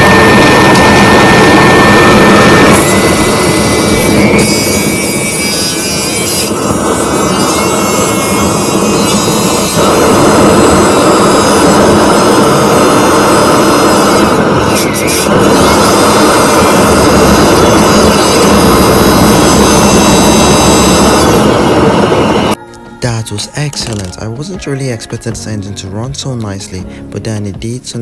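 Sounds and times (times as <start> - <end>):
motorjet engine running: 0.0 - 22.6
faint high whine: 0.0 - 26.9.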